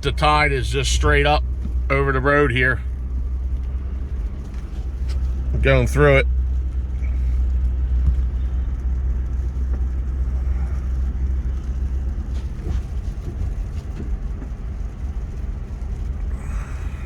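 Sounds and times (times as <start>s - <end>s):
car engine and tyres droning: 0.0s - 17.0s.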